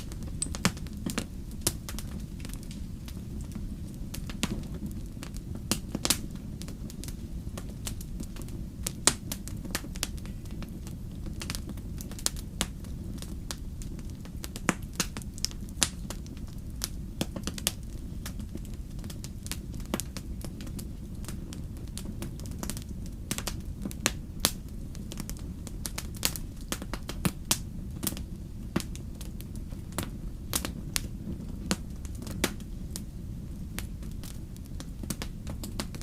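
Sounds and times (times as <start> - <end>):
campfire pops and snaps: 0.0 - 36.0
low fire rumble: 0.0 - 36.0.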